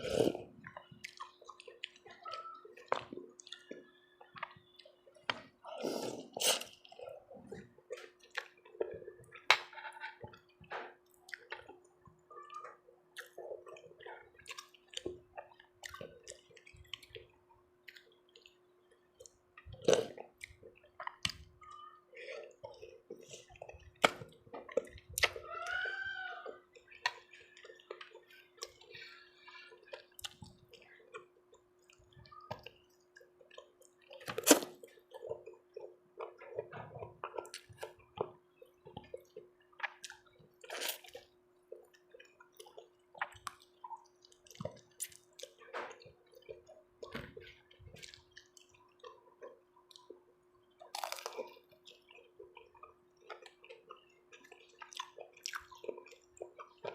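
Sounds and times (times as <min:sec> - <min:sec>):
wet chewing and slurping: 0:00.0 - 0:56.9.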